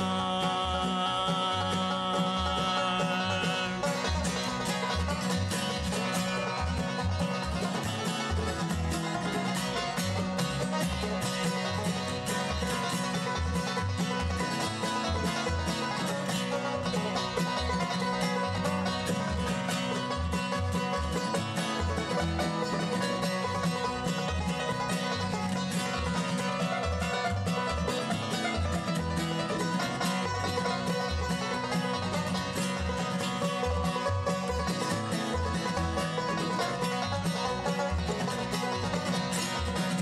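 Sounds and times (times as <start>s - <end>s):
acoustic guitar: 0.0s - 40.0s
banjo picking: 0.0s - 40.0s
mandolin: 0.0s - 40.0s.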